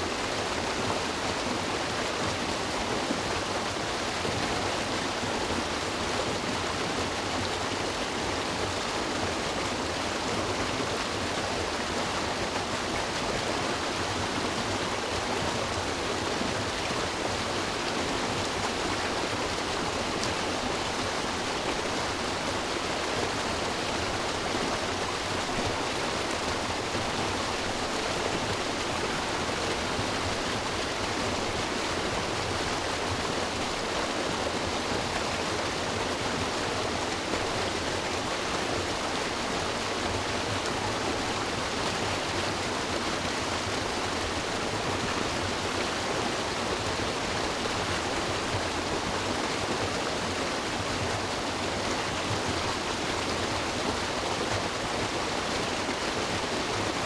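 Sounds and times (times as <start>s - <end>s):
river rushing over rocks: 0.1s - 57.0s.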